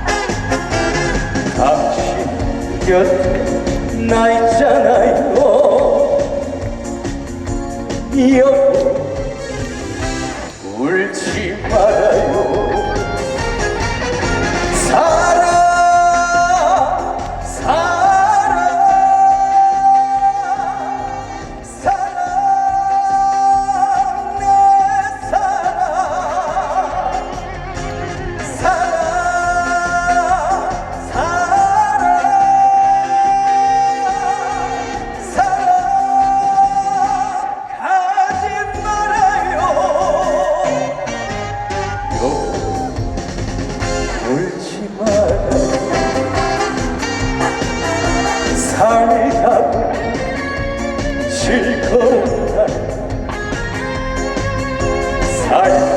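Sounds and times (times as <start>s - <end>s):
live band playing: 0.0s - 55.9s.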